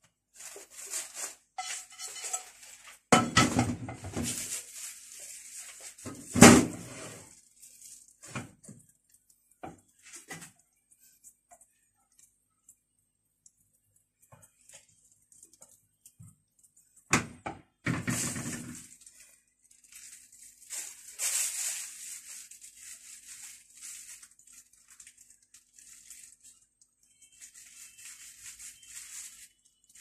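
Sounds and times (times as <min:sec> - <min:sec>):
plastic piping bag crinkling: 0:00.2 - 0:17.1, 0:17.7 - 0:30.0.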